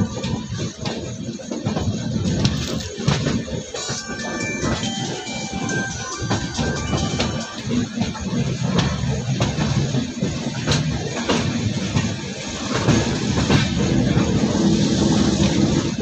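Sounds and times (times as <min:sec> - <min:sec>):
train wheels rumbling on rail: 0:00.0 - 0:16.0
wheels clicking over rail joints: 0:00.0 - 0:16.0.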